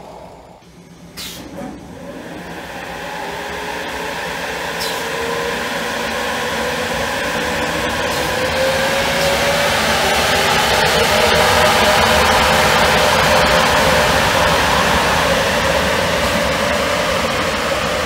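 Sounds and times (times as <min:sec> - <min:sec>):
electric locomotive whine: 0:00.0 - 0:18.0.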